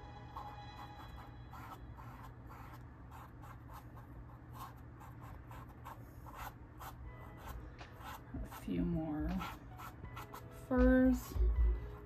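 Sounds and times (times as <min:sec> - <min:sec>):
paintbrush scratching on canvas: 0:00.3 - 0:11.6.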